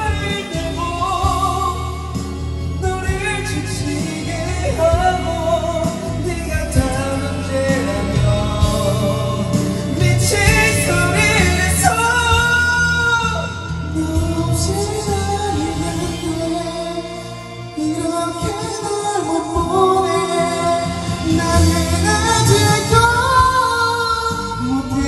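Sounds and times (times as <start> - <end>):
person singing: 0.0 - 25.0
pop ballad backing track: 0.0 - 25.0.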